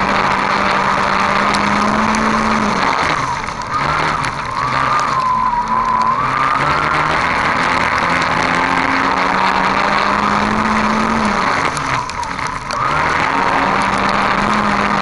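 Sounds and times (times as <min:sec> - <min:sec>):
race car engine at high revs: 0:00.0 - 0:15.0
tyre and dirt noise: 0:00.0 - 0:15.0.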